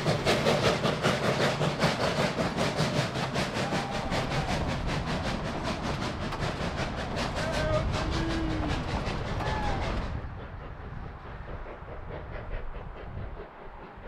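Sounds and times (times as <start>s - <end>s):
steam locomotive exhaust beats: 0.0s - 14.0s.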